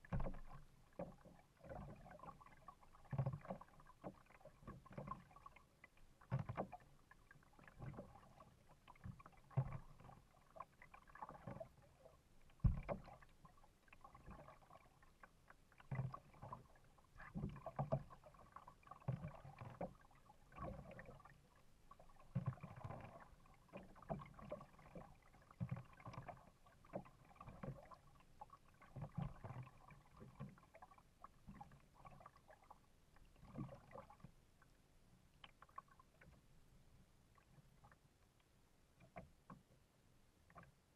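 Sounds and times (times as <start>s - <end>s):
paddle splashing in water: 0.0s - 34.6s
water sloshing against hull: 0.0s - 40.9s.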